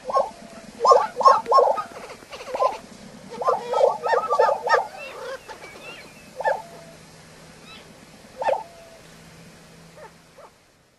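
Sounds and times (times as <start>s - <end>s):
prairie-chickens calling: 0.0s - 9.2s.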